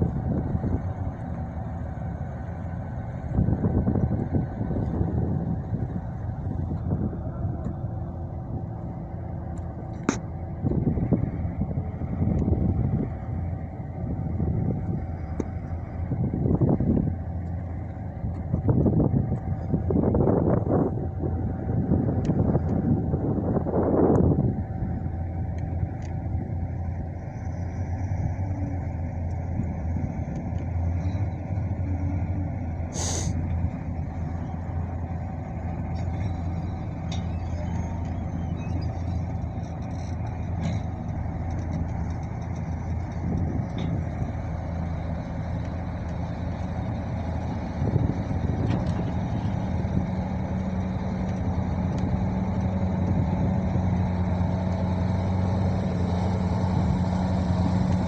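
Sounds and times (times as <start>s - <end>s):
large engine running: 0.0s - 58.0s.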